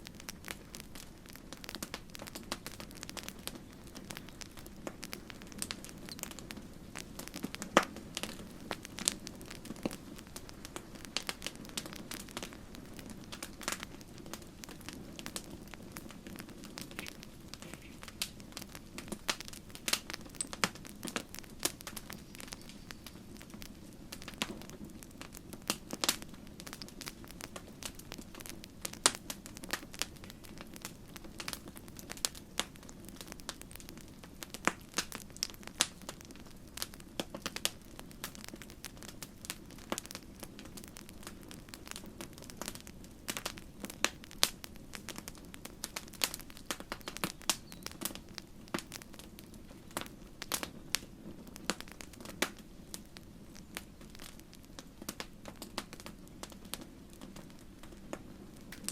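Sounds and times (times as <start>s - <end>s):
campfire crackling and popping: 0.0s - 58.9s
low rumble of flames: 0.0s - 58.9s.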